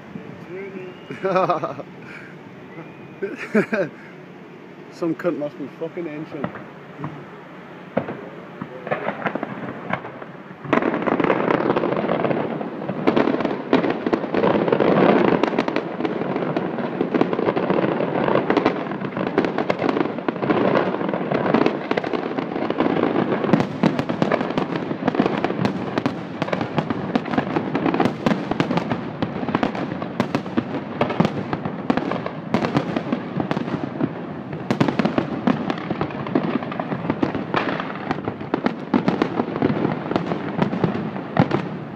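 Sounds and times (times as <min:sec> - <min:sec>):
fireworks bangs and crackling: 0:00.0 - 0:02.3, 0:05.0 - 0:07.2, 0:07.8 - 0:41.9.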